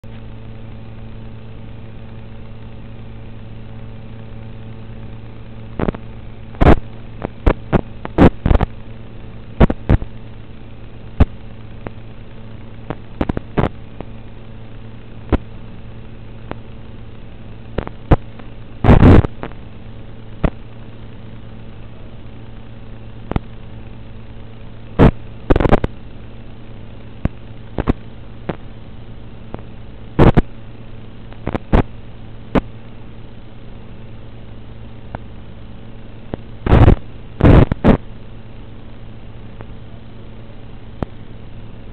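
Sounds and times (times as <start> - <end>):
electrical hum: 0.0 - 41.9
static crackles and pops: 0.0 - 41.9.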